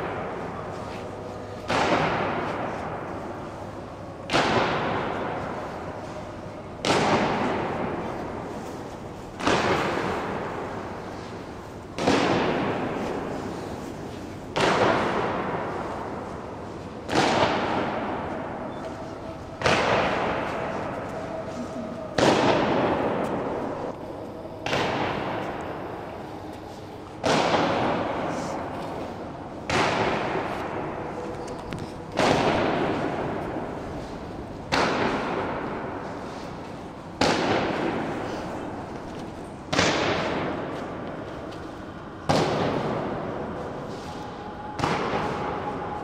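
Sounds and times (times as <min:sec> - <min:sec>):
echoing booms: 0:01.5 - 0:46.0.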